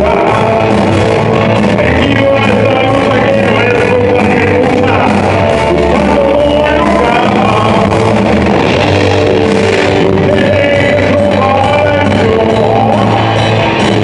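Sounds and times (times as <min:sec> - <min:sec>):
male singer: 0:00.0 - 0:08.5, 0:09.7 - 0:14.0
drum kit: 0:00.0 - 0:14.0
electric guitars: 0:00.0 - 0:14.0.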